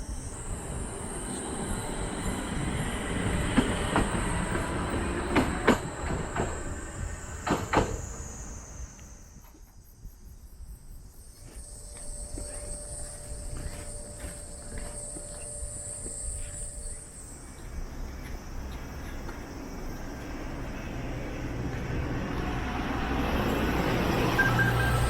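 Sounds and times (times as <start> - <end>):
tram rumbling: 0.0 - 9.6, 11.4 - 25.0
insects buzzing: 0.0 - 25.0.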